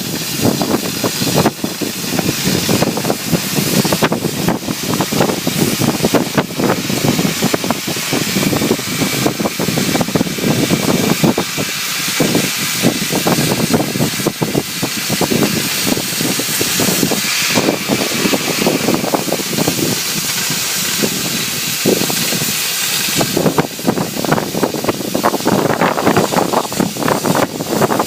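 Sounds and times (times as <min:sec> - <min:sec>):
gas jet hissing: 0:00.0 - 0:28.0
torch crackling cutting steel: 0:00.0 - 0:28.0.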